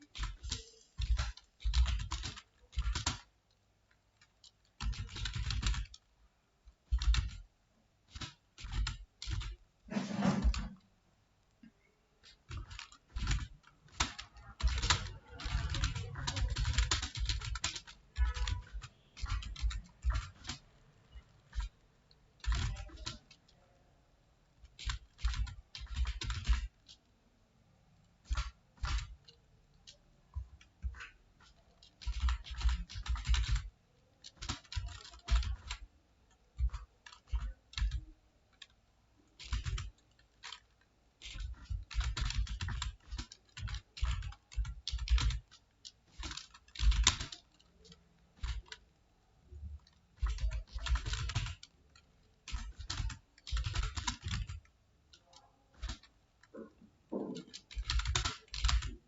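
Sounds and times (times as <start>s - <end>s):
keyboard typing: 0.0s - 7.5s, 8.1s - 10.9s, 11.6s - 59.0s.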